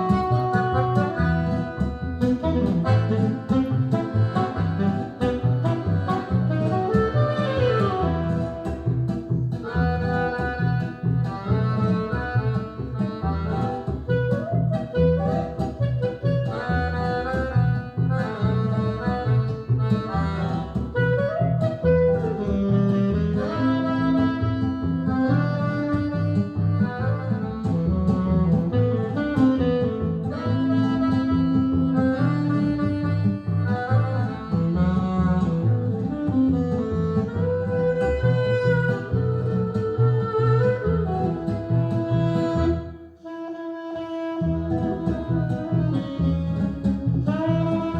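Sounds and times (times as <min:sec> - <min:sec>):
instrumental music with horn melody: 0:00.0 - 0:47.9.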